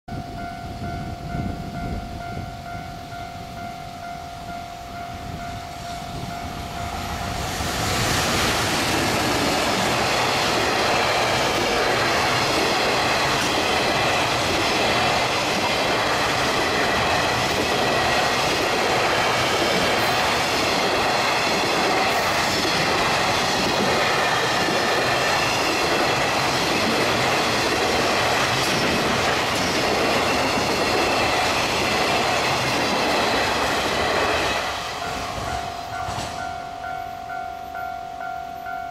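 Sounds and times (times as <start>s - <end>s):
level-crossing warning bell: 0.1s - 38.9s
train passing at speed: 0.1s - 38.9s.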